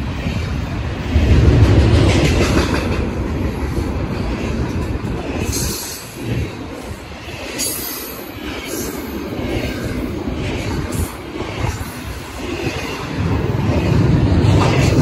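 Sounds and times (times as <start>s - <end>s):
freight train rumble and clatter: 0.0s - 15.0s.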